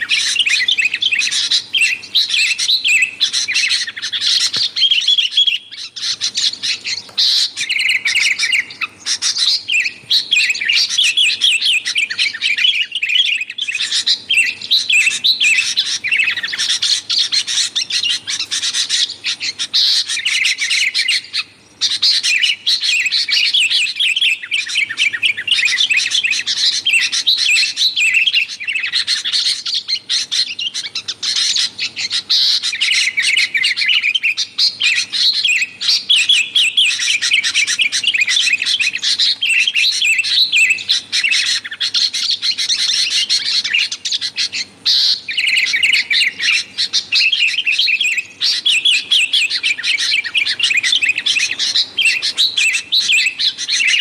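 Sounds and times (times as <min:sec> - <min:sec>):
bulbul singing rapid chattering: 0:00.0 - 0:54.0.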